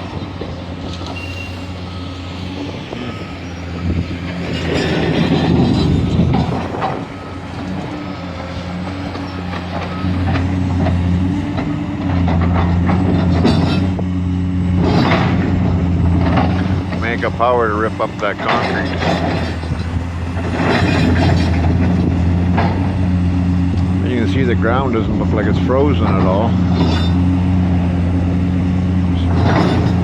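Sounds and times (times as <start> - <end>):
excavator engine under load: 0.0 - 30.0.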